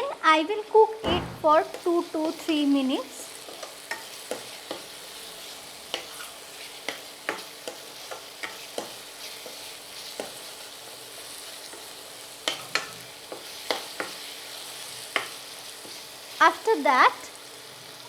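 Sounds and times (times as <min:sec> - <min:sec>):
paste sizzling in oil: 0:00.8 - 0:18.0.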